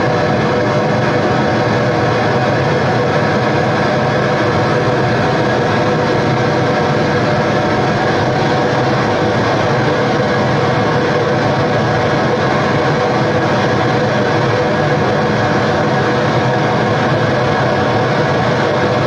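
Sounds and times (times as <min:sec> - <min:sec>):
noise music: 0:00.0 - 0:19.0.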